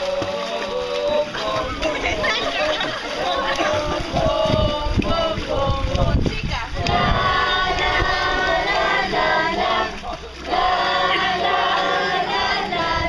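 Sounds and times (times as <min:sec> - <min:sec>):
girls singing in unison: 0:00.0 - 0:13.0.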